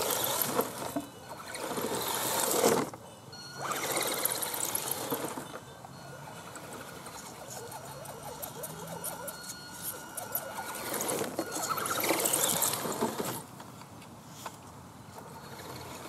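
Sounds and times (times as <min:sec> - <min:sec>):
electric motor and gears whining: 0:00.0 - 0:13.5.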